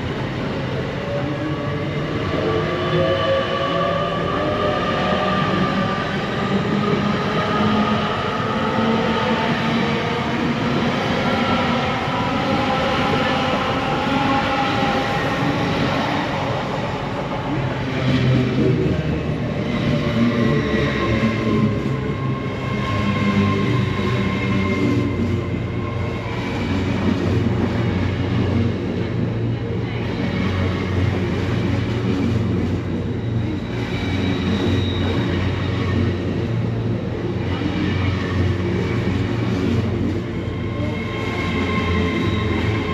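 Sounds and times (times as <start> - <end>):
train running past: 0.0 - 42.9.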